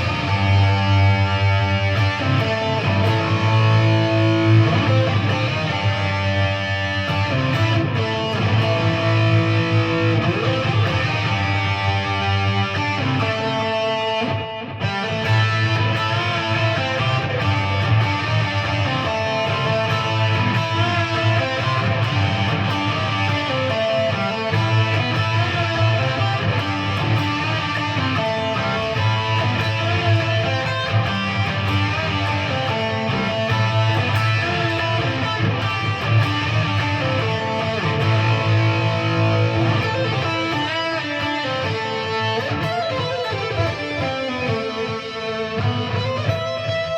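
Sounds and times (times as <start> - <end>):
distorted electric guitar riff: 0.0 - 46.9.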